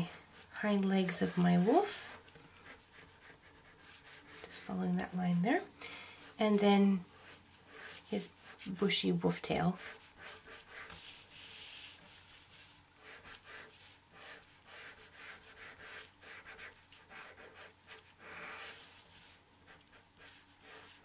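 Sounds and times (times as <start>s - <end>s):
pencil scratching on paper: 0.0s - 5.2s, 7.1s - 21.0s.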